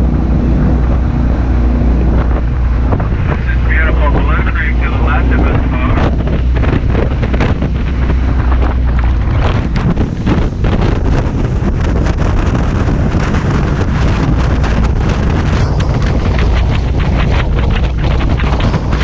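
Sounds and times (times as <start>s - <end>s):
boat engine drone: 0.0s - 19.0s
wind buffeting microphone: 0.0s - 19.0s.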